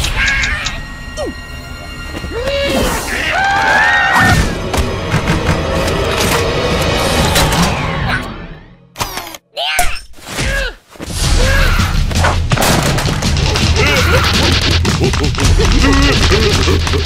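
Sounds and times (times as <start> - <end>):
background music: 0.0 - 9.0, 11.1 - 17.0.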